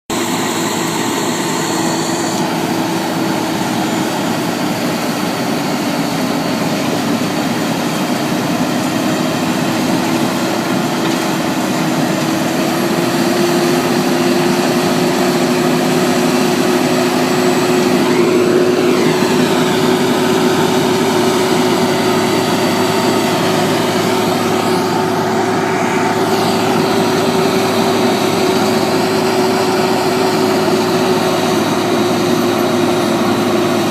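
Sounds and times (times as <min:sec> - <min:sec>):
road-work machinery running: 0:00.1 - 0:33.9.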